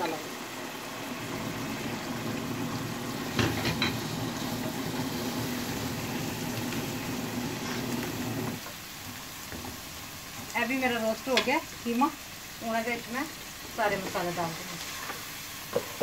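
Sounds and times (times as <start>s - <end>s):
mince sizzling in oil: 0.0s - 16.0s.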